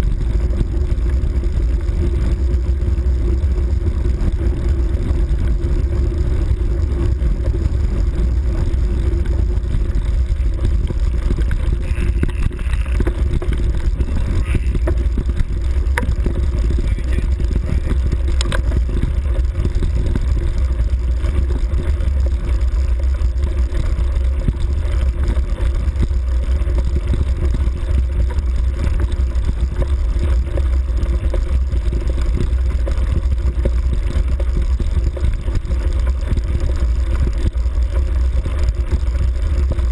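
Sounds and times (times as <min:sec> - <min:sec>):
camera rattling: 0:00.0 - 0:39.9
wind buffeting microphone: 0:00.0 - 0:39.9.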